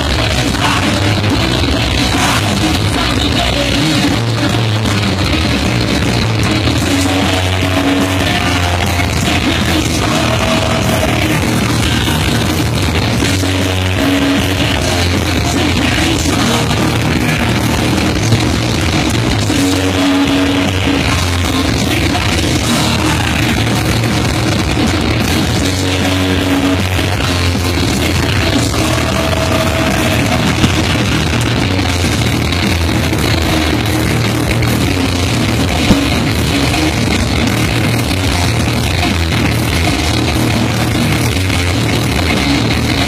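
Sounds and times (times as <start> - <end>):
live heavy rock band: 0.0 - 43.0.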